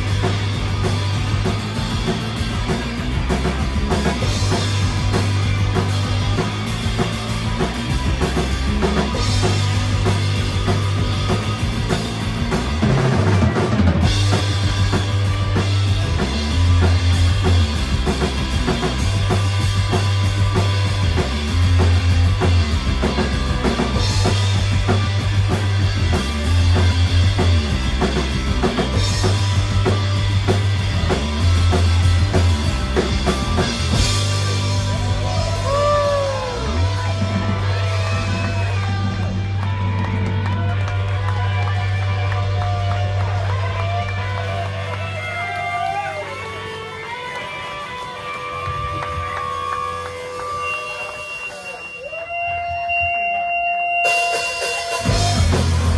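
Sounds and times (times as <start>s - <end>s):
pulsing bass line: 0.0s - 45.4s, 55.0s - 55.9s
drums: 0.0s - 55.9s
live rock band: 0.0s - 55.9s.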